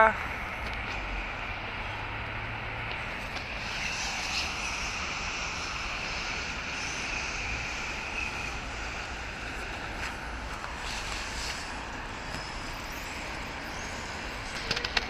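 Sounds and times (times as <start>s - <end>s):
drone propellers whirring: 0.0s - 15.0s
high whine: 0.0s - 15.0s.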